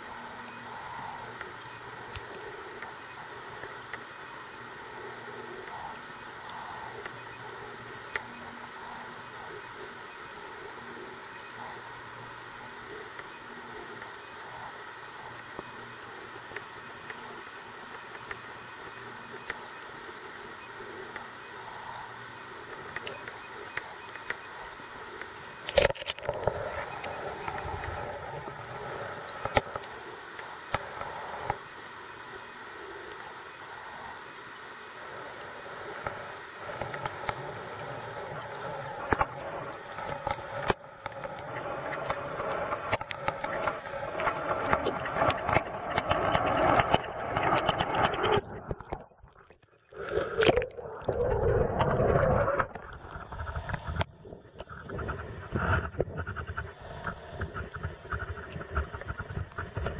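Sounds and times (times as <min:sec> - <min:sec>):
muffled underwater water noise: 0:00.0 - 0:59.9
rough noise in air: 0:00.0 - 0:59.9.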